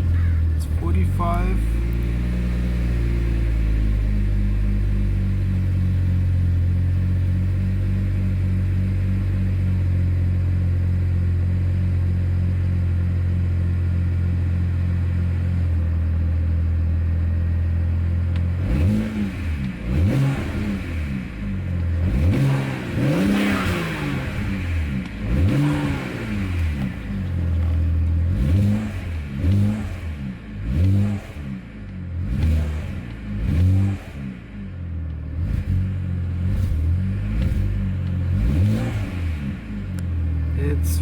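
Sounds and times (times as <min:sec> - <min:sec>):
car engine idling roughly and revving: 0:00.0 - 0:41.0.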